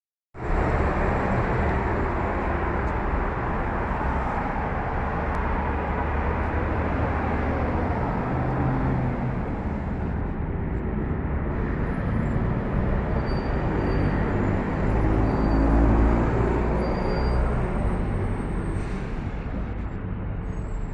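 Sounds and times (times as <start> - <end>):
car engine and road noise: 0.4 - 20.9.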